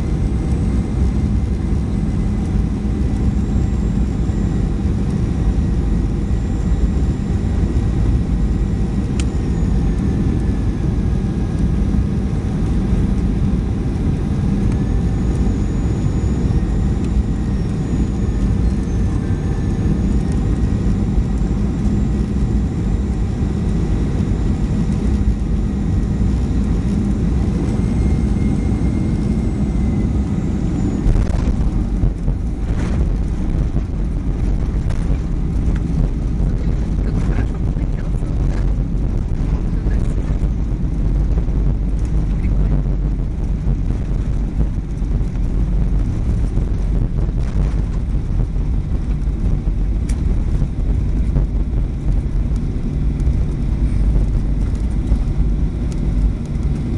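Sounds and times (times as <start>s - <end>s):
faint whining engine tones: 0.0s - 56.9s
jet engine and airflow rumble: 0.0s - 56.9s.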